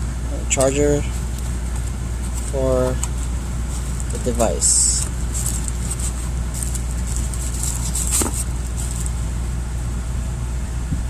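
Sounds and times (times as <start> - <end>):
low hum: 0.0 - 11.0
packaging rustling: 0.5 - 9.4.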